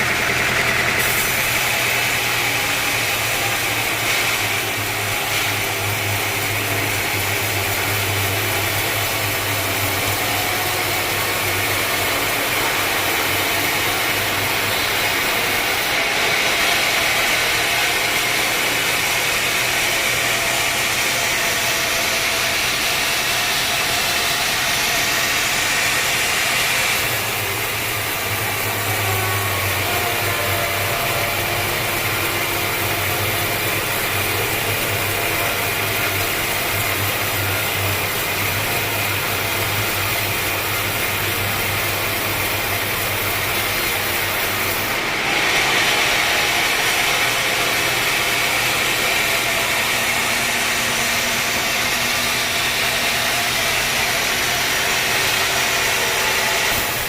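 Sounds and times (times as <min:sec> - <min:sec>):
sawmill machinery clattering: 0:00.0 - 0:57.0.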